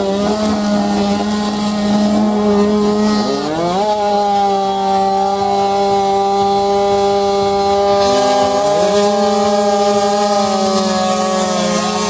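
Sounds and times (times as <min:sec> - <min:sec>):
scooter engine high revs: 0:00.0 - 0:12.0.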